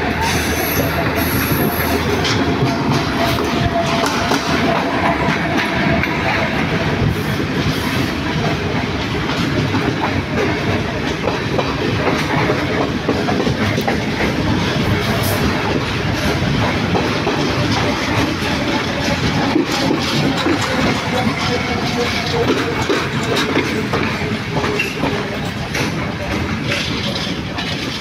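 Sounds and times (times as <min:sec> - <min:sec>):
train running rumble: 0:00.0 - 0:28.0
wheels clicking on rails: 0:00.0 - 0:28.0.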